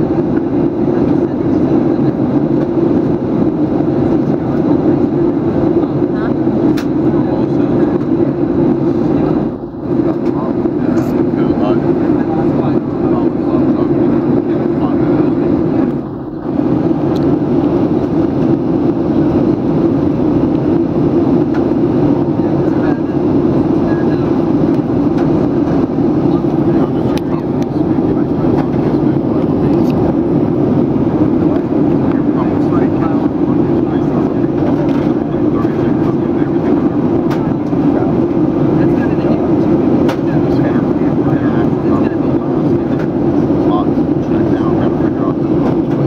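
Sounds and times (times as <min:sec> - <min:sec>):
airliner cabin noise in flight: 0:00.0 - 0:46.0.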